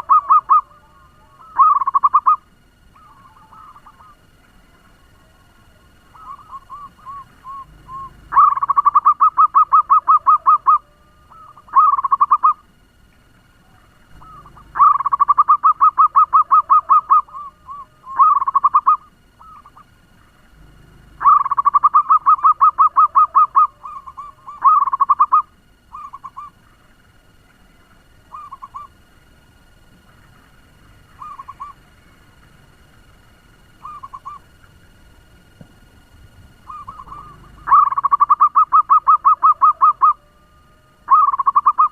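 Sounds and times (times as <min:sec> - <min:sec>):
dove cooing: 0:00.0 - 0:12.8, 0:13.5 - 0:26.9, 0:27.8 - 0:29.5, 0:30.1 - 0:41.9.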